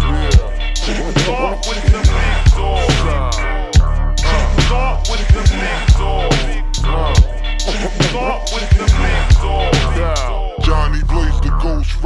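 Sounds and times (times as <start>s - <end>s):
heavy bass line: 0.0s - 12.0s
pitched down rapping voice: 0.0s - 12.0s
drum beat: 0.3s - 10.2s.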